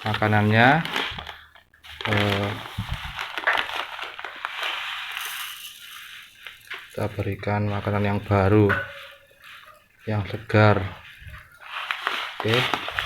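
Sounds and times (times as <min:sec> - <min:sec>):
person speaking: 0:00.0 - 0:03.3, 0:05.8 - 0:13.0
rustling and crinkling of bird feed: 0:00.0 - 0:13.0.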